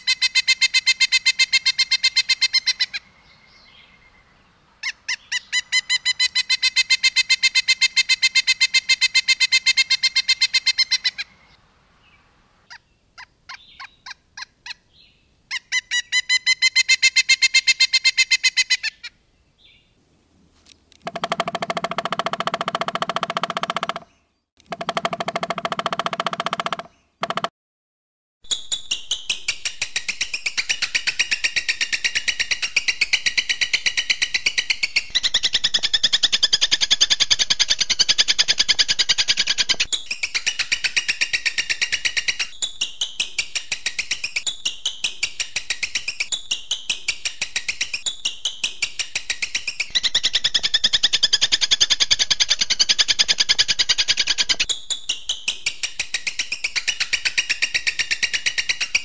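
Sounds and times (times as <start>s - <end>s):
songbird song: 0.0s - 27.5s, 33.0s - 59.0s.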